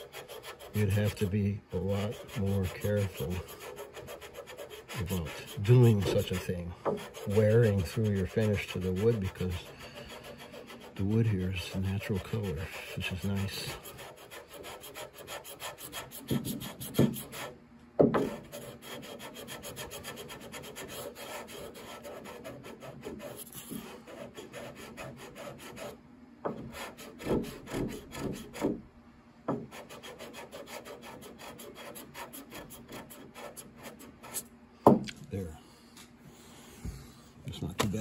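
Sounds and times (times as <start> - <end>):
sandpaper rasping on wood: 0.0 - 17.6, 18.2 - 26.0, 26.6 - 28.8, 29.7 - 34.4
sanding block knocks: 0.0 - 28.8, 29.5 - 34.4.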